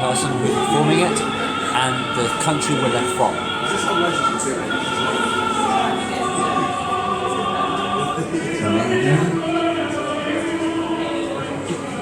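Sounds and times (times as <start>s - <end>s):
singer holding long notes: 0.0s - 12.0s
song over a loudspeaker: 0.0s - 12.0s.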